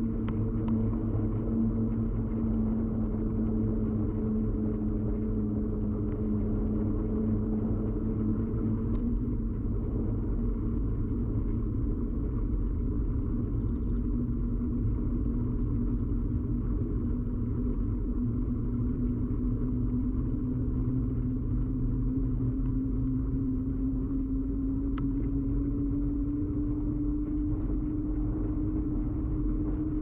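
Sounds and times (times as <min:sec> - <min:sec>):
bicycle tyres and frame rumble: 0:00.0 - 0:30.0
humming tone rising in pitch: 0:00.0 - 0:30.0.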